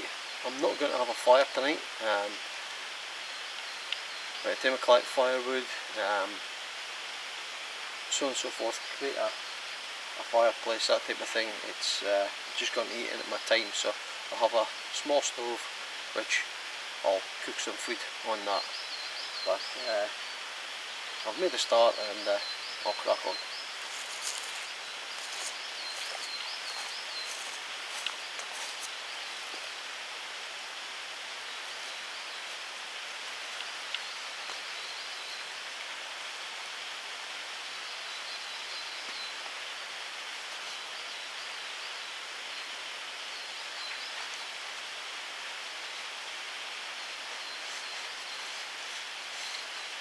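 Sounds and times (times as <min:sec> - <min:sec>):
outdoor background hiss: 0:00.0 - 0:50.0.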